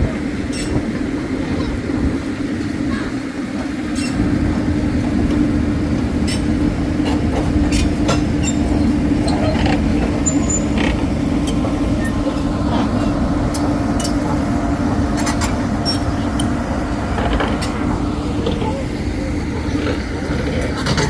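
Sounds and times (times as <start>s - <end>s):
heavy engine humming: 0.0s - 21.0s.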